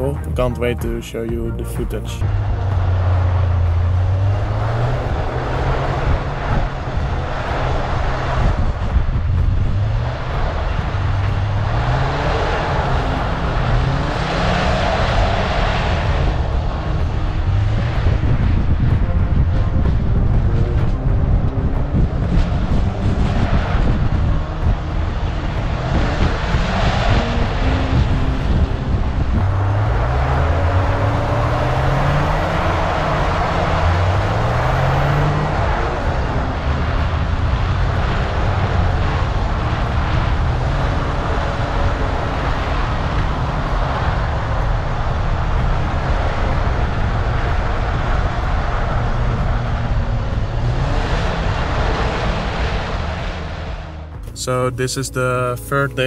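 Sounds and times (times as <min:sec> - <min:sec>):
car engine revving: 0:00.0 - 0:56.0
rushing noise: 0:00.0 - 0:56.0.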